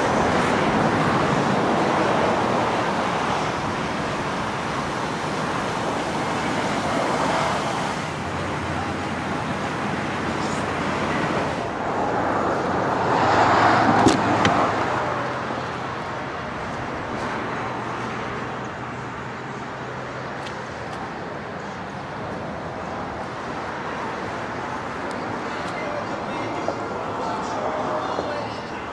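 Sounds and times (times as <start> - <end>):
road traffic passing: 0.0 - 28.9.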